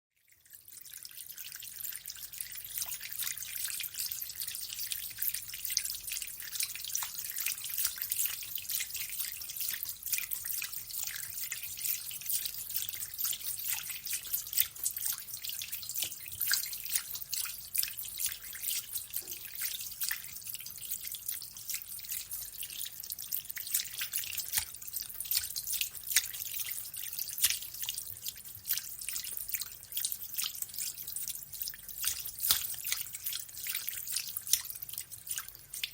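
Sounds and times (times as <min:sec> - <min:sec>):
water dripping and splashing: 0:00.3 - 0:35.9.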